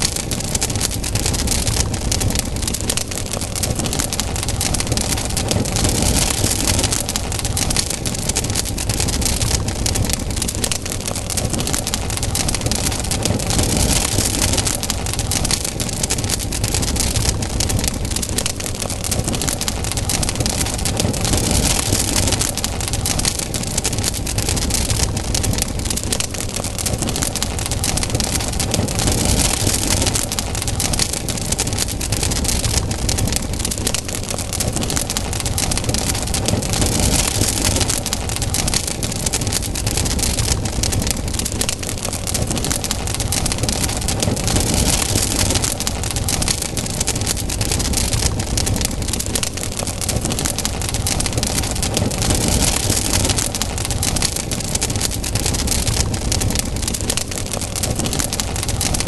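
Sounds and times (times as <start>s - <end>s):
campfire crackling and popping: 0.0s - 59.0s
rushing hiss of fire: 0.0s - 59.0s.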